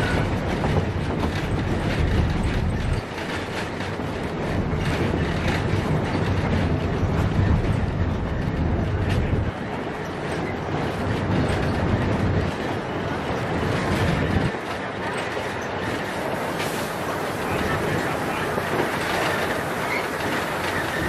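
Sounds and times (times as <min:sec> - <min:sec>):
train rumbling on track: 0:00.0 - 0:21.0
wheels clicking on rails: 0:00.0 - 0:21.0.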